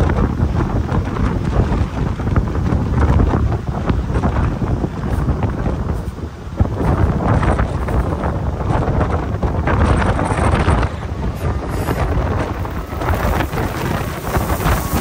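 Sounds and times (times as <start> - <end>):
steady background noise: 0.0 - 15.0
wind buffeting microphone: 0.0 - 15.0.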